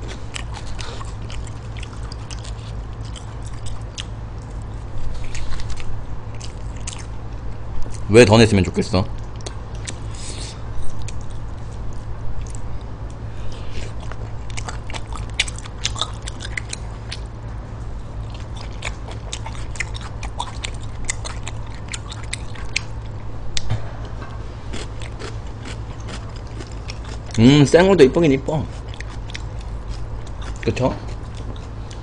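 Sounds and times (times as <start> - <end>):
chewing and wet mouth sounds: 0.0 - 8.1, 8.7 - 17.4, 18.0 - 32.0
low hum: 0.0 - 32.0.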